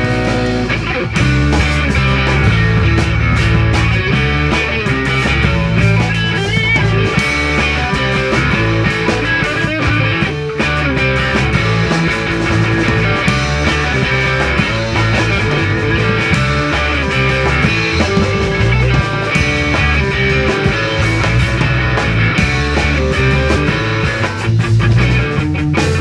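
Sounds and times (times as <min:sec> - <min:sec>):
drums playing: 0:00.0 - 0:26.0
electric guitar: 0:00.0 - 0:26.0.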